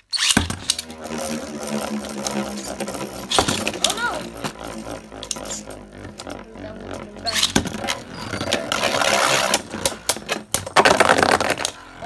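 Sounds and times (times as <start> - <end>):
grinding: 0.0 - 12.0
spinning tops whirring and scraping: 0.0 - 12.0.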